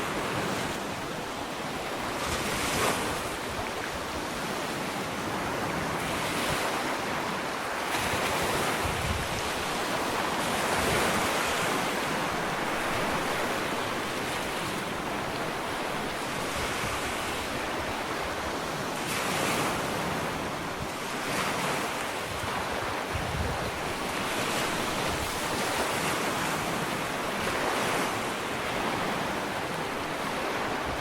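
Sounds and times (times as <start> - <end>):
waves washing onto sandy shore: 0.0 - 31.0
wind on microphone: 2.0 - 31.0.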